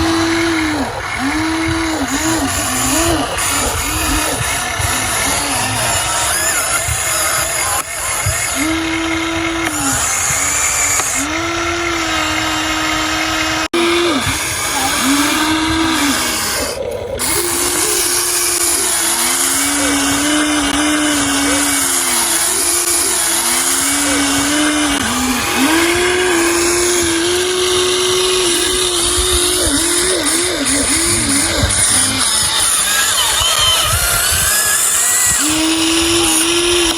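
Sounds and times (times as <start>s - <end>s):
small electric motors whining: 0.0s - 36.9s.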